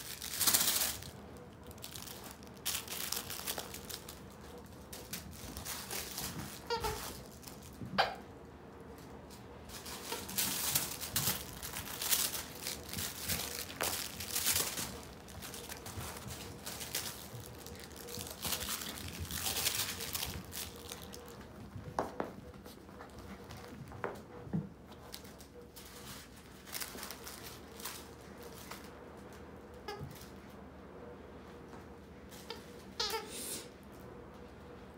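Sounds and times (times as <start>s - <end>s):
crinkling and rustling of toys: 0.0s - 30.6s, 31.6s - 34.9s
puppies playing with plush toys: 0.0s - 34.9s.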